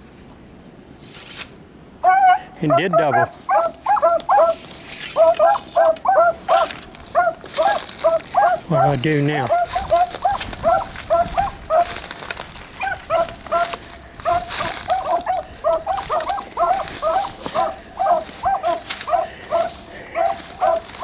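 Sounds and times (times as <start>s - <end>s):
dogs baying: 2.0s - 21.0s.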